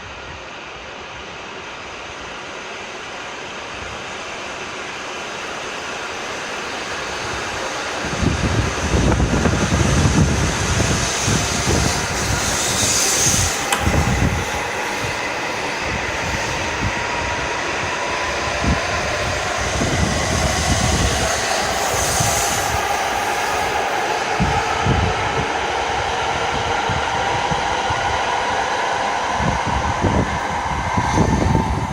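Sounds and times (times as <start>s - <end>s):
thin motor whine: 0.0s - 31.9s
train wheels rumbling: 1.3s - 31.9s.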